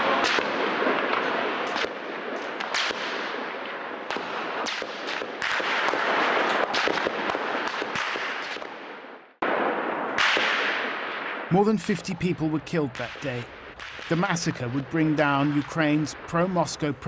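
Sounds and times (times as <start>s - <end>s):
gunshots cracking: 0.0s - 17.0s.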